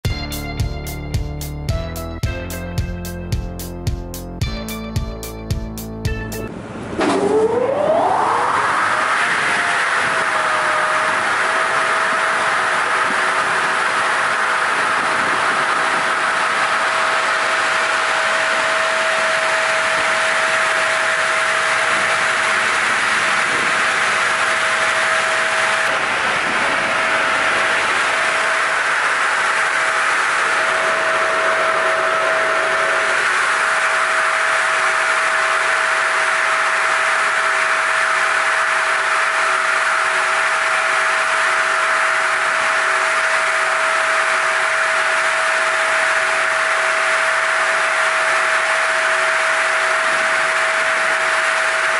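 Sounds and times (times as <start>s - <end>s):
circular saw whining: 6.5s - 51.9s.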